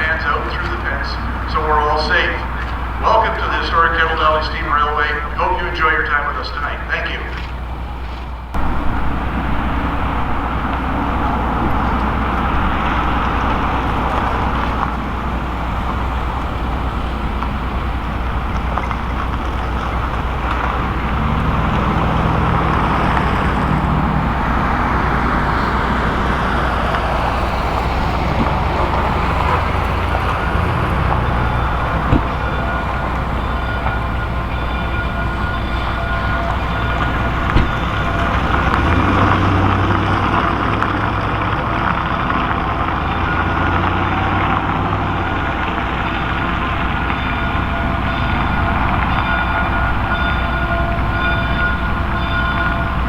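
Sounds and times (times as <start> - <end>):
steam train rumbling: 0.0 - 53.0.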